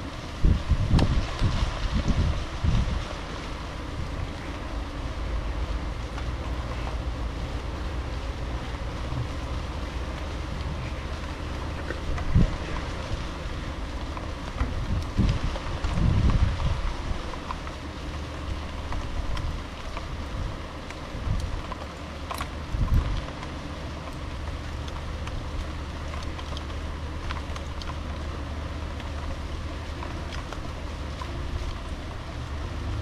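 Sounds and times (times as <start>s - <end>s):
rain: 0.0s - 33.0s
wind buffeting the microphone: 0.0s - 33.0s.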